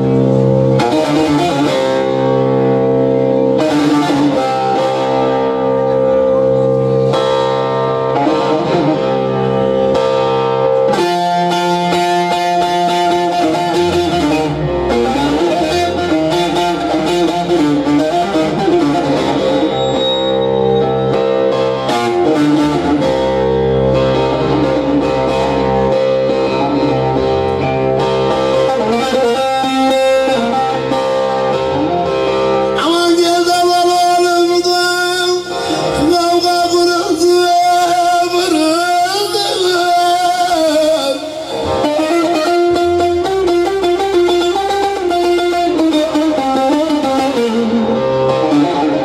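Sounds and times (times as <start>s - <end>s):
amplified plucked lute: 0.0s - 49.0s.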